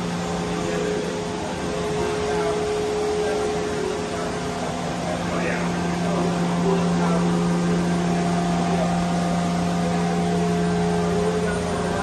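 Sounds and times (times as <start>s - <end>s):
machining center humming: 0.0s - 12.0s.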